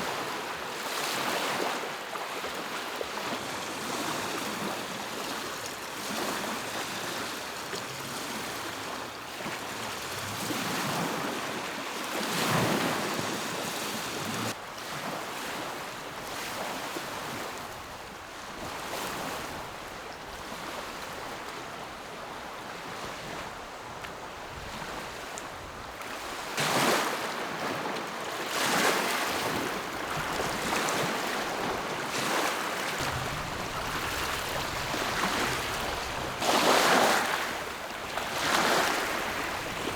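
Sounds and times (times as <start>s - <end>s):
waves lapping onto shore: 0.0s - 39.9s.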